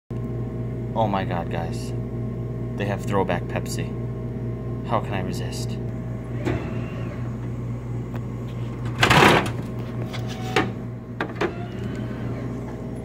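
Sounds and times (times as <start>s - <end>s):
vending machine hum: 0.2s - 13.0s.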